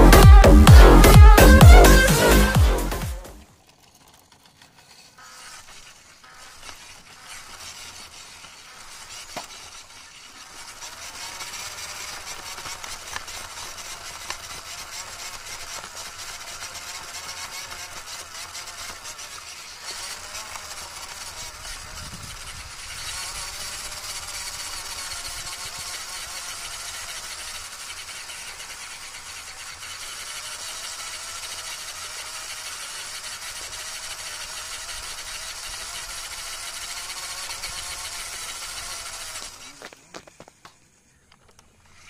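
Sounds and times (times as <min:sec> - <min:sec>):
toy car electric motor whining: 0:00.0 - 0:42.0.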